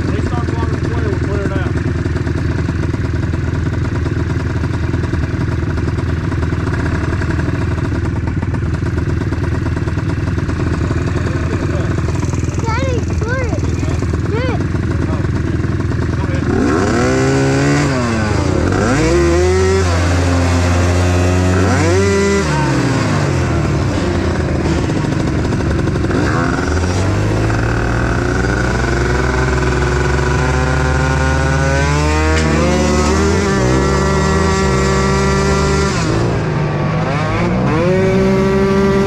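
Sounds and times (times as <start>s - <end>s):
atv engines revving: 0.0s - 39.0s.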